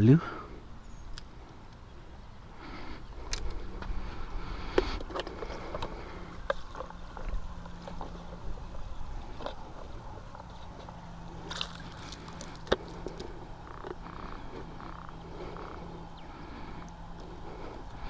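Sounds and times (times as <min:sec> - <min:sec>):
wind rumbling on microphone: 0:00.6 - 0:18.0
water sloshing: 0:02.6 - 0:18.0.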